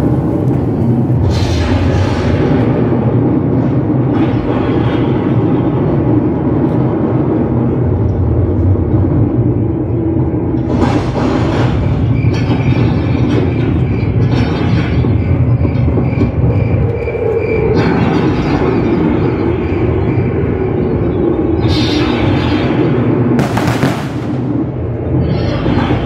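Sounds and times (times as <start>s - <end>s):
deep rumble sound effect: 0.0s - 26.0s.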